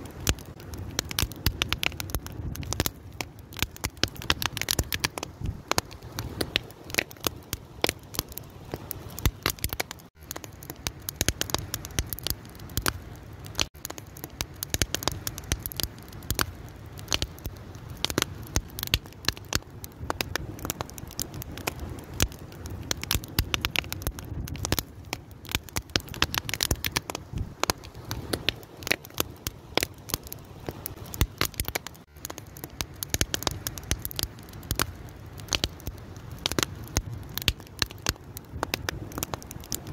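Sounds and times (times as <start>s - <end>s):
fire pops and snaps: 0.0s - 39.9s
low rush of burning: 0.0s - 39.9s.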